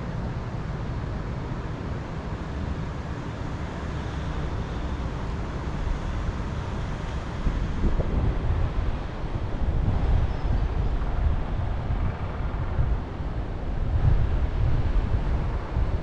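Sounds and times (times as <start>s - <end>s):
wind gusting against microphone: 0.0s - 16.0s.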